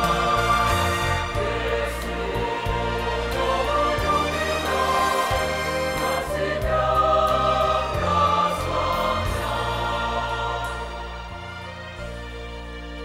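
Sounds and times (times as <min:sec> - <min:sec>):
mixed choir singing a hymn: 0:00.0 - 0:12.1.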